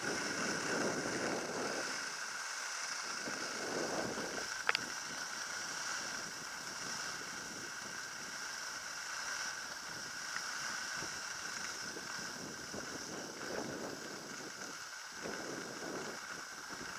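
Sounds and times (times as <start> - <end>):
skis scraping over snow: 0.0 - 16.9.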